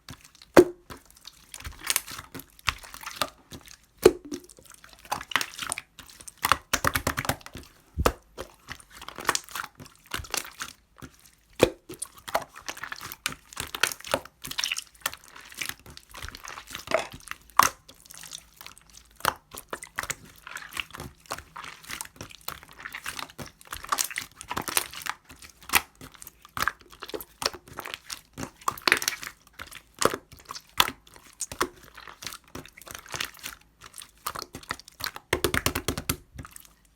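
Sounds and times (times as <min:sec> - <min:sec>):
hands squishing sticky slime: 0:00.0 - 0:36.9.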